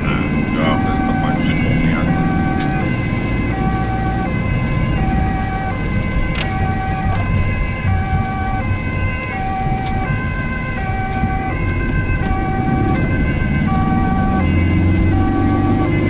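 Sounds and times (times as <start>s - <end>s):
ambulance two-tone siren: 0.0s - 16.0s
road noise: 0.0s - 16.0s
vehicle engine: 0.0s - 16.0s.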